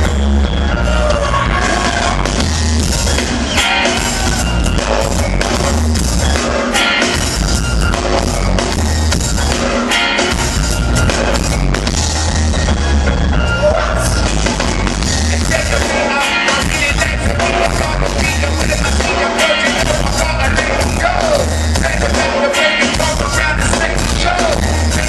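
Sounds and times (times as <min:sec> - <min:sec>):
drum kit: 0:00.0 - 0:25.0
heavy bass: 0:00.0 - 0:25.0.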